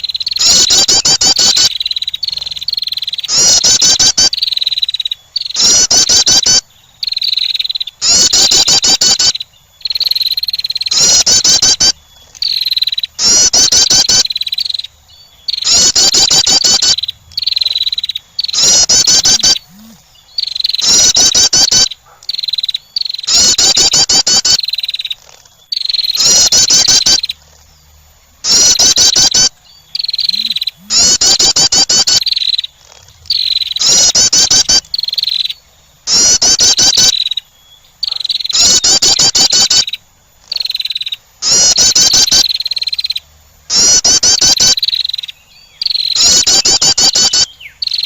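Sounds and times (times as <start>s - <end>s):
wren rattling call and trill: 0.0s - 48.0s.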